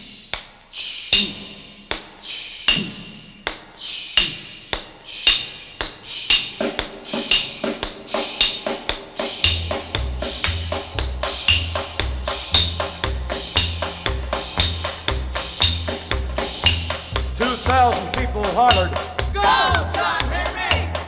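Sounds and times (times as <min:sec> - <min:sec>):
hammer clanging on steel: 0:00.0 - 0:21.0.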